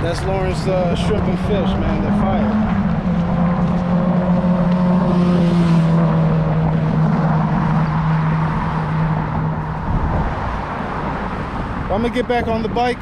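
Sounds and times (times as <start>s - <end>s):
street noise: 0.0s - 13.0s
vehicle engine humming: 0.0s - 13.0s.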